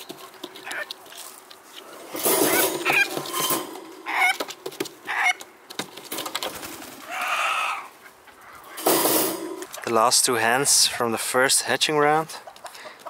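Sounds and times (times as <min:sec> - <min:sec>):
hens clucking: 0:00.1 - 0:11.4, 0:12.0 - 0:13.0.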